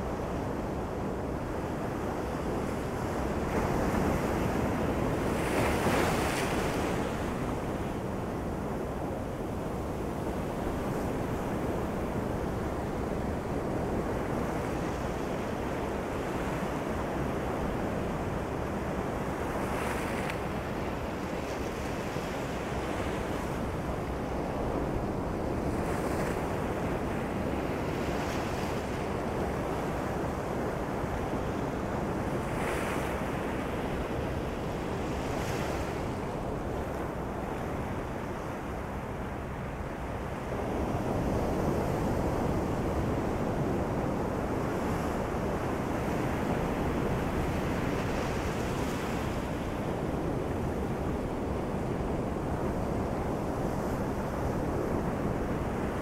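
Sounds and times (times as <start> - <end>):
ocean waves on a beach: 0.0 - 56.0.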